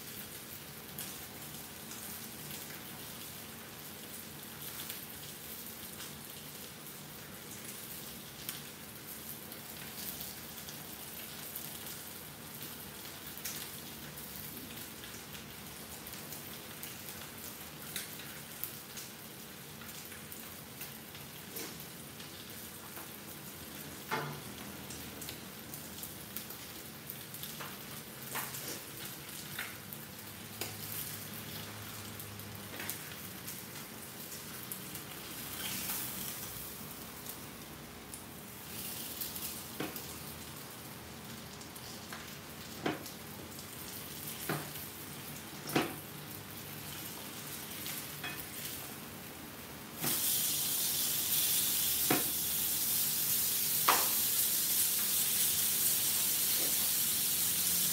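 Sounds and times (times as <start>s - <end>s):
fish sizzling in a skillet: 0.0s - 37.5s, 38.4s - 40.4s, 41.8s - 49.0s, 50.0s - 57.9s.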